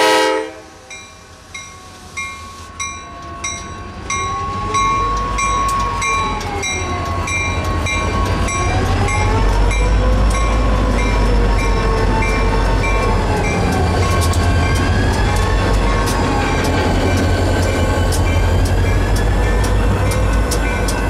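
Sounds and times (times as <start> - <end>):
diesel locomotives rumbling: 0.0 - 21.0
crossing bell dinging: 0.9 - 21.0.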